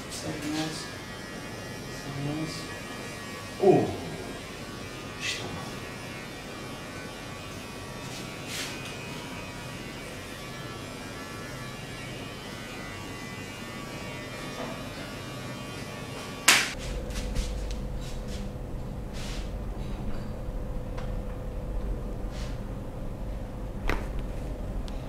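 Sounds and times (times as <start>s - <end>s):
electric buzzing hum: 0.0s - 25.0s.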